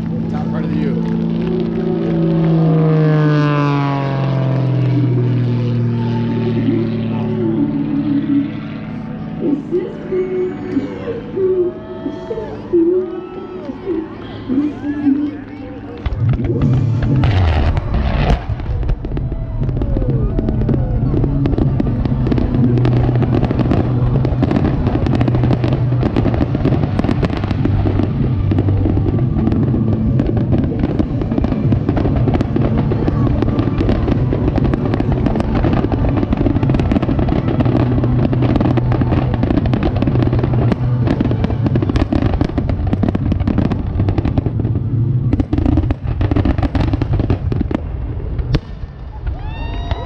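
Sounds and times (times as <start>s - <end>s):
fireworks bangs and crackling: 0.0s - 50.0s.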